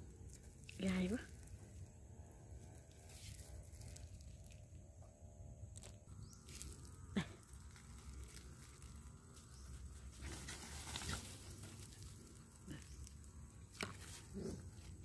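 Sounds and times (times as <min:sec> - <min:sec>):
leaves rustling: 0:00.2 - 0:04.8, 0:05.6 - 0:15.0.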